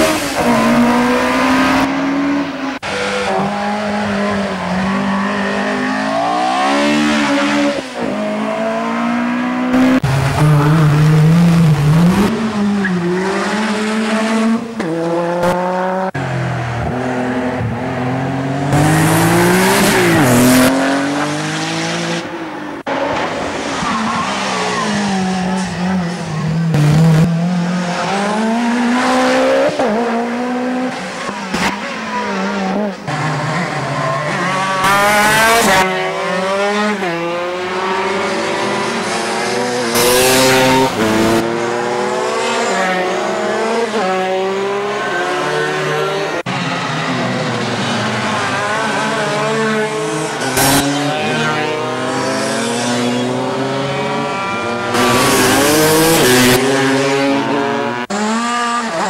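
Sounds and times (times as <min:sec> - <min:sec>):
race car engines revving: 0:00.0 - 0:59.0
racing kart engine: 0:00.0 - 0:59.0.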